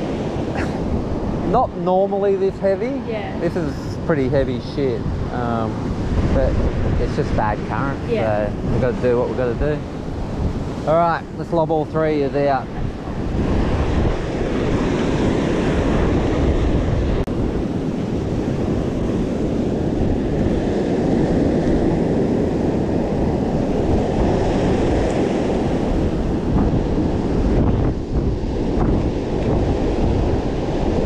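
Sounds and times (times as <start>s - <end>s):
ocean surf breaking: 0.0s - 31.0s
wind buffeting microphone: 0.0s - 31.0s.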